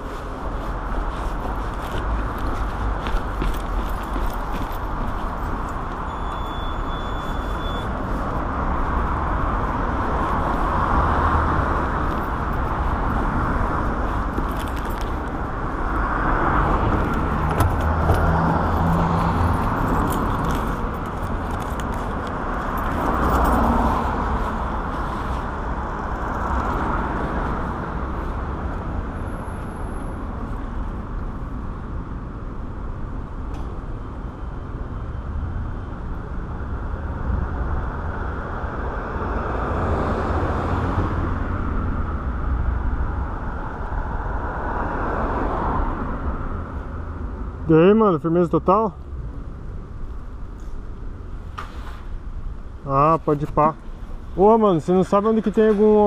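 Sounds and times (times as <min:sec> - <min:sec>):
cars passing: 0:00.0 - 0:56.0
low traffic rumble: 0:00.0 - 0:56.0.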